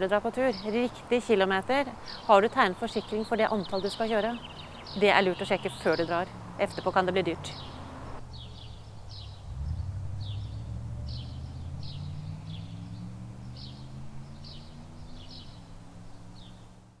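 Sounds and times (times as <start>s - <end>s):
small bird chirping: 2.9s - 16.7s.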